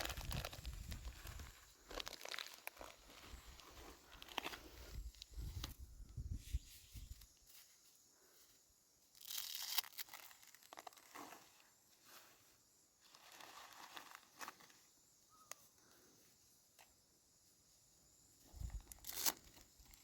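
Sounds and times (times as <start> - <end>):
crinkling and rustling handling: 0.0 - 8.4, 9.1 - 16.1, 18.4 - 20.0.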